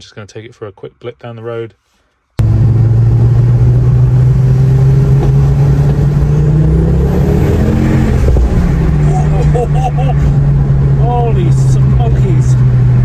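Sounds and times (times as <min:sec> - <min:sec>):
car engine accelerating: 0:02.4 - 0:13.0.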